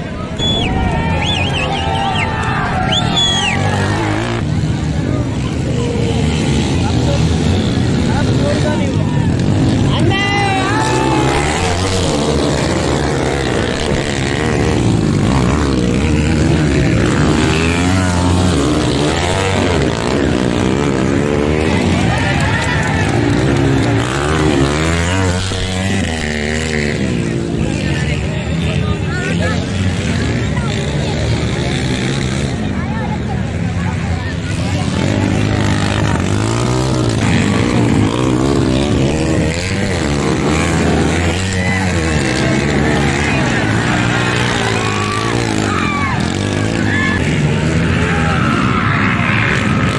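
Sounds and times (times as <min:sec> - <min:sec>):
dirt bike engines revving: 0:00.0 - 0:49.9.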